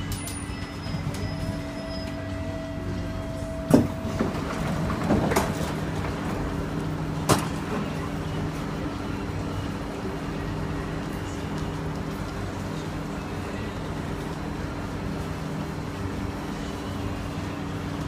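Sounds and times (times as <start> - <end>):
train equipment hum: 0.0 - 18.0.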